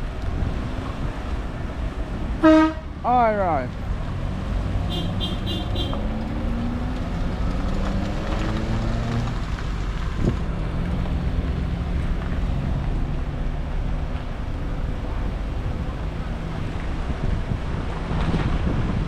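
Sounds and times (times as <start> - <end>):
vehicle engines humming: 0.0 - 19.0.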